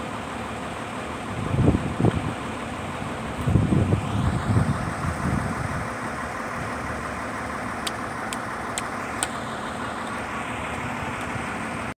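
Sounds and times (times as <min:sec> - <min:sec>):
crane engine idling: 0:00.0 - 0:11.9.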